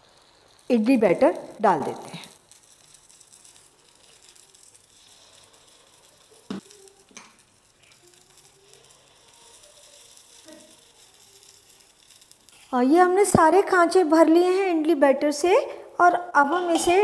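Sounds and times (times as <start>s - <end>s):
batter sizzling faintly: 0.0s - 17.0s.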